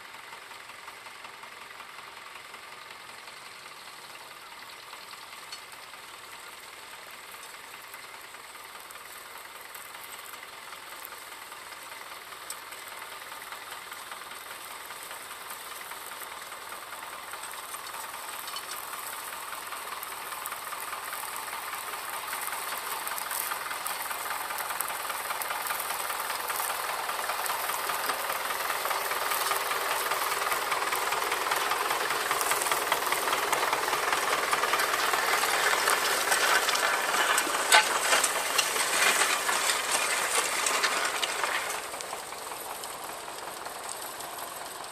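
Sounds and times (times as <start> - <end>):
tractor engine under load: 0.0 - 44.9.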